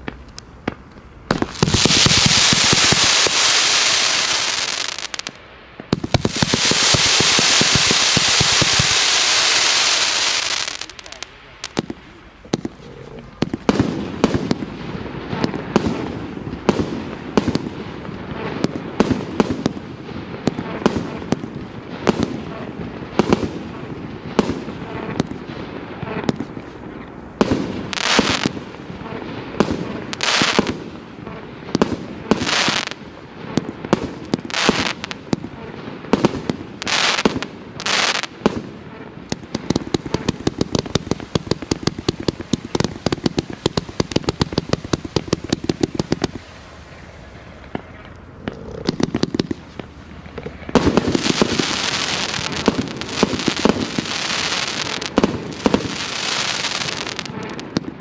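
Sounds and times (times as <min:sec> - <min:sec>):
volley of firework pops: 0:00.0 - 0:47.0, 0:47.6 - 0:58.0
fireworks launches and bursts: 0:00.0 - 0:58.0
hissing firework bursts: 0:00.0 - 0:58.0.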